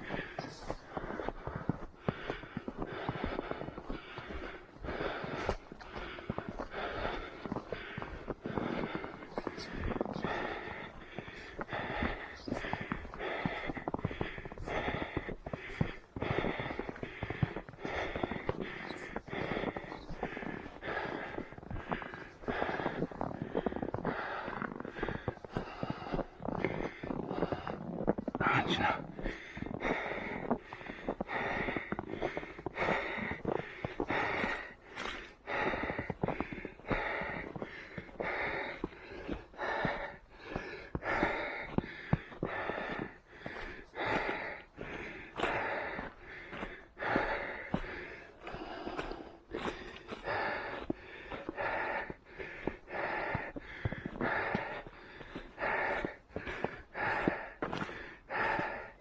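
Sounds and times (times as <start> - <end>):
runner breathing heavily: 0.0 - 59.0.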